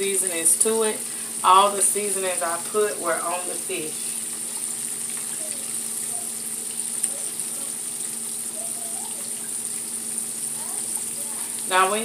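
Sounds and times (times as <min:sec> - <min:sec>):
fish deep-frying in hot oil: 0:00.0 - 0:12.0.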